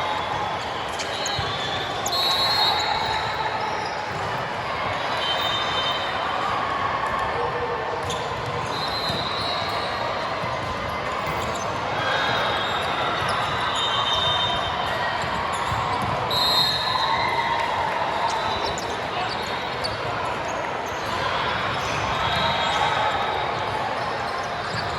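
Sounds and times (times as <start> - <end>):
murmur of many voices: 0.0 - 24.9.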